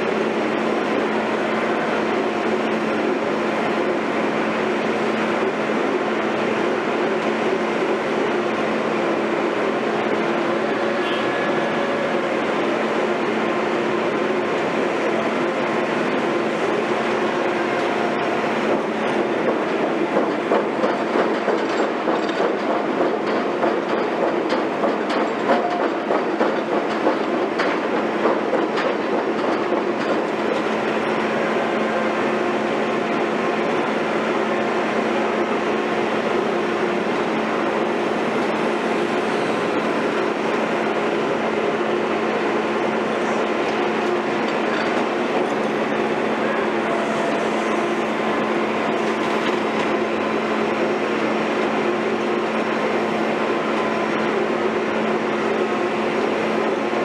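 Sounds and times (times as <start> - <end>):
diesel construction machinery running: 0.0 - 57.0.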